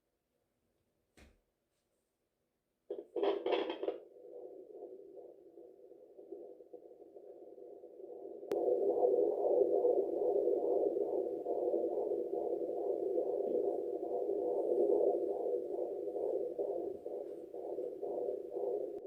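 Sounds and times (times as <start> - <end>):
heartbeat whoosh from doppler speaker: 2.9 - 19.0.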